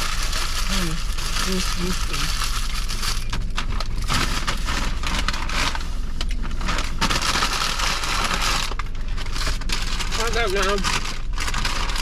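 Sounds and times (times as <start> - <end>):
paper rustling and crinkling: 0.0 - 12.0
steady low hum: 0.0 - 12.0.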